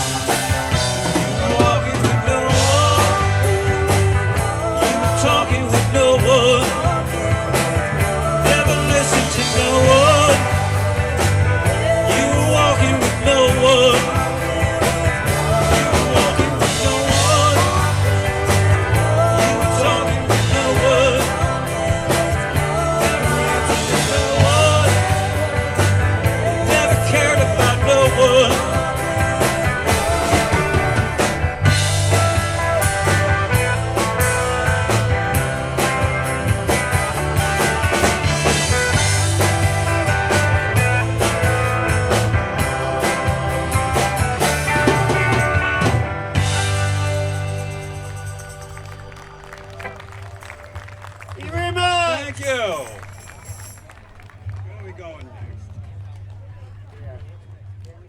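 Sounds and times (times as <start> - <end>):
live rock band playing: 0.0 - 54.5.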